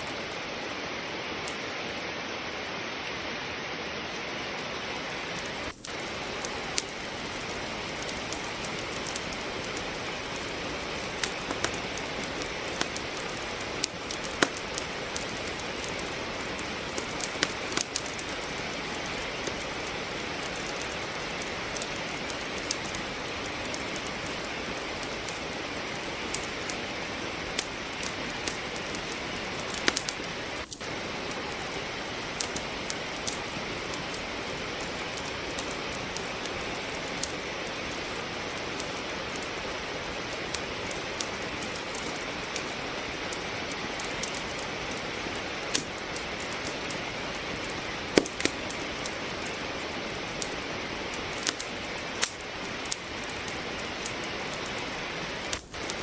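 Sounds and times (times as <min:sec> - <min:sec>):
fireplace logs crackling: 0:00.0 - 0:56.0
steady rain falling: 0:00.0 - 0:56.0.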